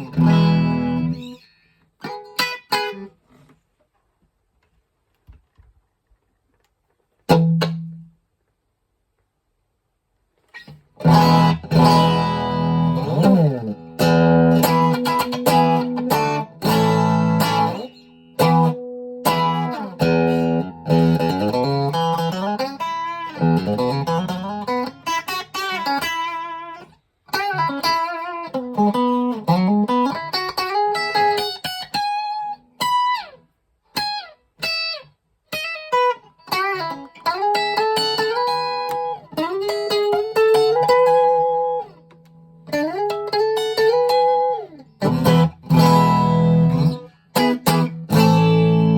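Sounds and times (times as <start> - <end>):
electric guitar playing: 0.0 - 3.2, 7.3 - 8.1, 10.5 - 48.9.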